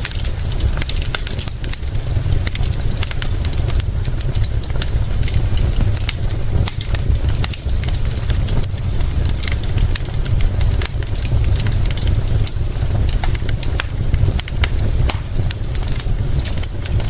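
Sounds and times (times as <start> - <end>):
rain hiss: 0.0 - 17.0
wood fire crackling and popping: 0.0 - 17.0.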